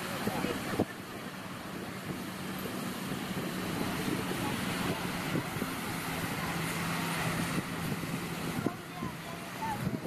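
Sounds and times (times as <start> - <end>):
low engine drone: 0.0 - 10.0
surf: 0.0 - 10.0
wind on microphone: 0.0 - 10.0.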